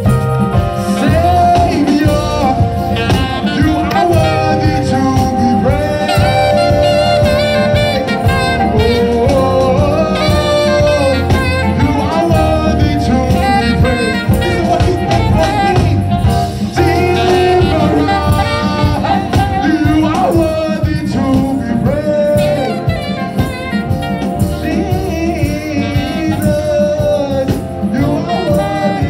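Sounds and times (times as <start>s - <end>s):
gospel singing with bending notes: 0.0s - 29.0s
keyboard-led band accompaniment: 0.0s - 29.0s.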